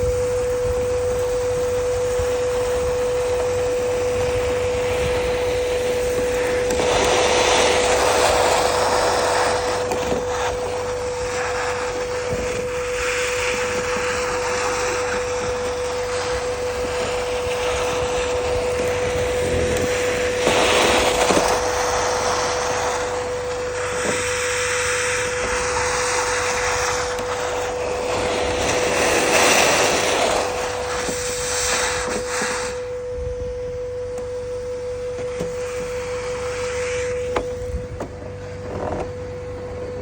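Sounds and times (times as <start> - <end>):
air and debris rushing up hose: 0.0 - 40.0
vacuum motor humming: 0.0 - 40.0.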